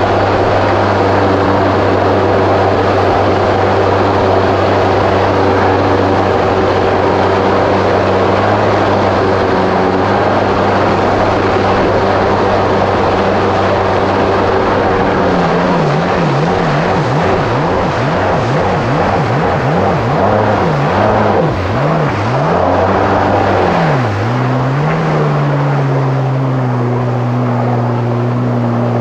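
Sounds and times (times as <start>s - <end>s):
jet ski engine running: 0.0s - 29.0s.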